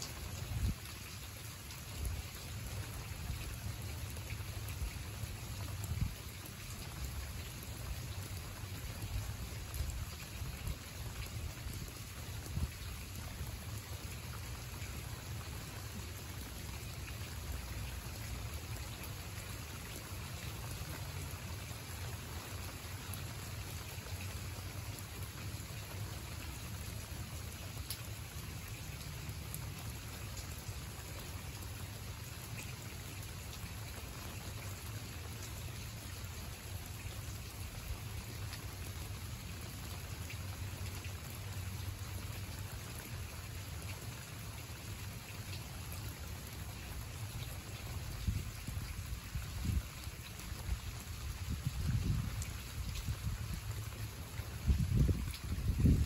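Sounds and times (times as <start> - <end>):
raindrop ticks: 0.0 - 49.0
rain falling on pavement: 0.0 - 56.0.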